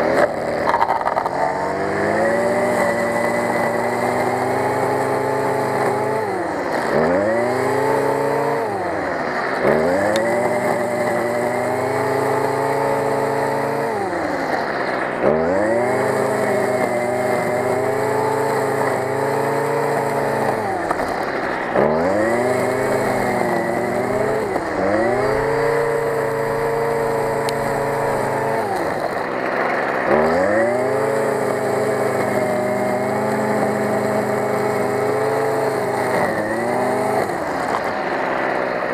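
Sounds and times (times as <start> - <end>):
grass trimmer engine revving: 0.0 - 38.9
trimmer line cutting grass: 0.0 - 38.9.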